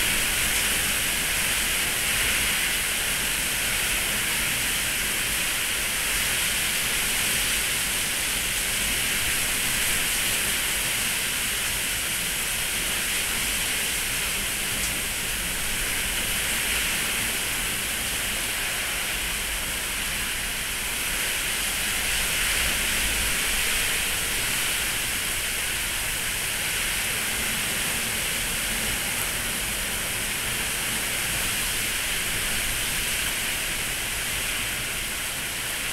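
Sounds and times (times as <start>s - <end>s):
heavy pouring rain: 0.0s - 35.9s
wind: 0.0s - 35.9s.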